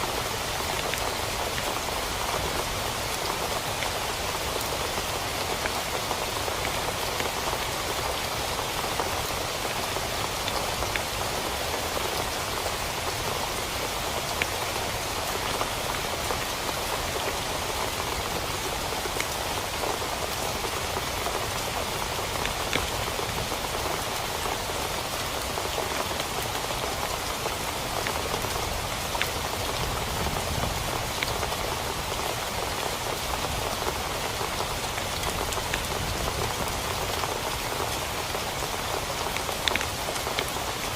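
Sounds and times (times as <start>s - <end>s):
heavy rain on a tent: 0.0s - 40.9s.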